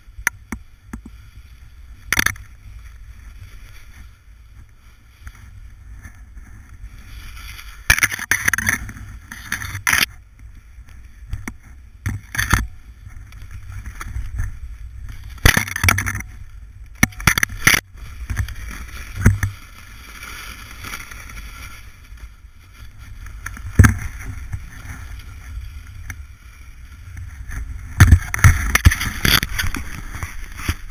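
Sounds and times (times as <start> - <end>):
snowboard scraping over snow: 0.0 - 30.9
wind on microphone: 0.0 - 30.9.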